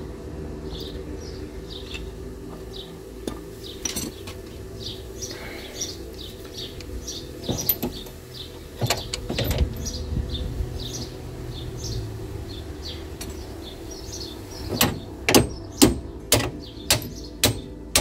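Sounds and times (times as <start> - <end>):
birds chirping: 0.0 - 18.0
low steady hum: 0.0 - 18.0.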